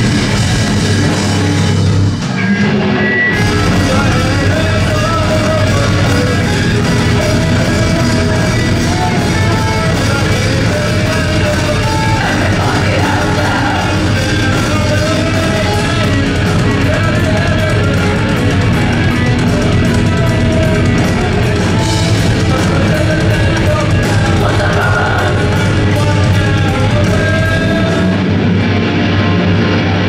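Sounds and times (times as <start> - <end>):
bass guitar: 0.0 - 30.0
drum kit: 0.0 - 30.0
electric guitars: 0.0 - 30.0.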